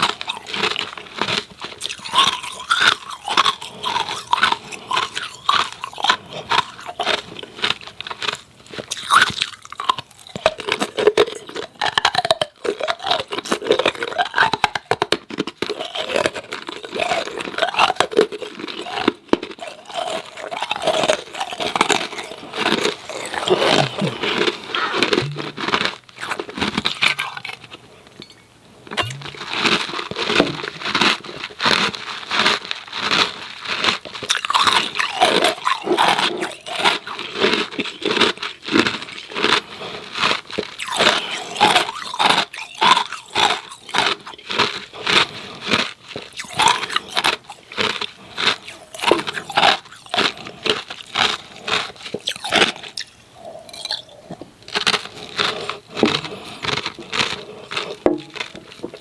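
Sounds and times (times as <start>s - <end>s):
ice cubes crunched and chewed: 0.0s - 59.0s.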